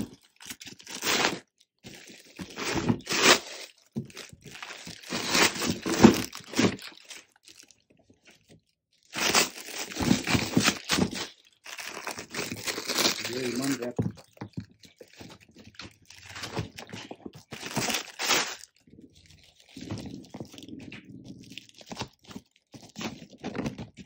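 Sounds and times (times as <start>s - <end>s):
packaging crunching and tearing: 0.0s - 24.0s.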